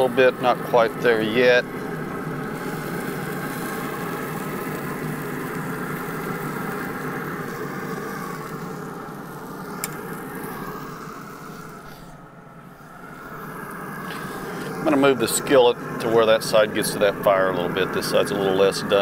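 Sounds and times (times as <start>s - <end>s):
grill fan whirring: 0.0s - 19.0s.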